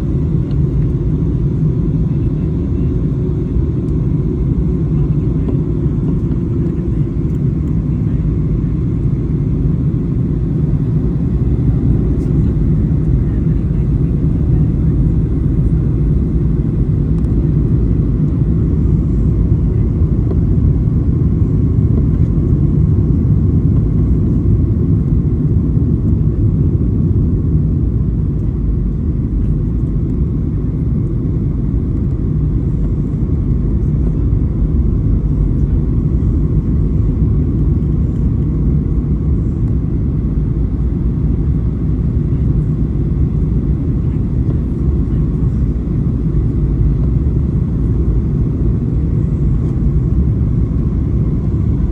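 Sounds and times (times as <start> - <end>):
airliner cabin engine rumble: 0.0 - 51.9.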